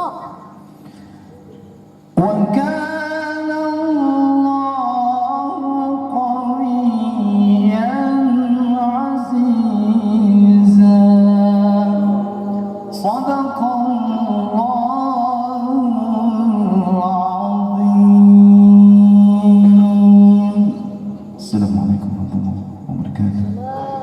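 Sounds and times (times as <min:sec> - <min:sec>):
man reciting melodically: 0:02.1 - 0:24.0.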